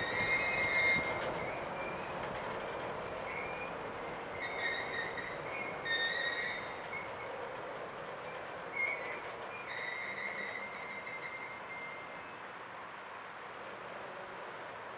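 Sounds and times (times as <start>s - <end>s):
high-pitched wheel squeals: 0.0s - 12.4s
steel wheels rumbling on rail: 0.0s - 14.9s.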